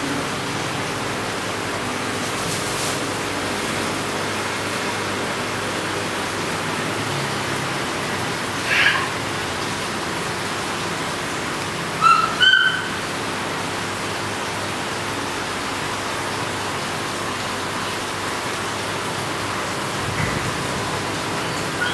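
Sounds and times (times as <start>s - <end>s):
aquarium water flow hiss: 0.0s - 21.9s.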